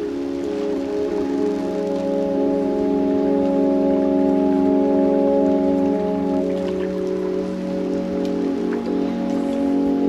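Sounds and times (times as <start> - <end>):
faint hiss: 0.0 - 10.0
slow held music chord: 0.0 - 10.0.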